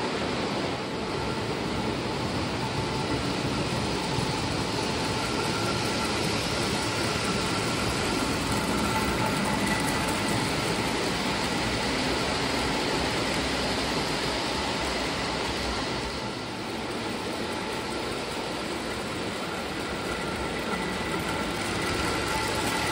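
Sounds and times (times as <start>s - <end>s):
model train rumbling with whine: 0.0s - 22.9s.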